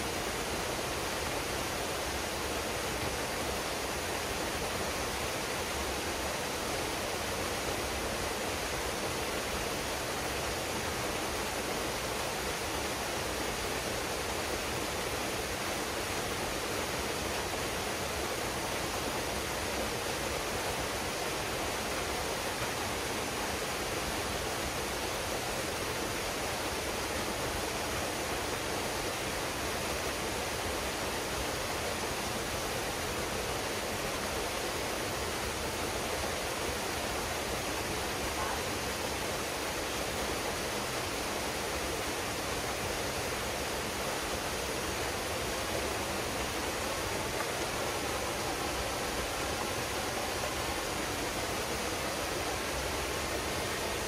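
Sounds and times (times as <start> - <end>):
waterfall pouring into a pool: 0.0 - 54.0.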